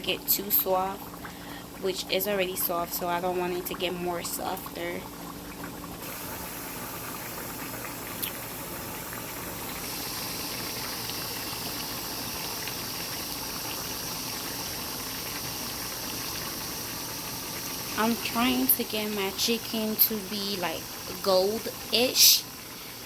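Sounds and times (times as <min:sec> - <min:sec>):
chicken sizzling in oil: 0:00.2 - 0:23.0.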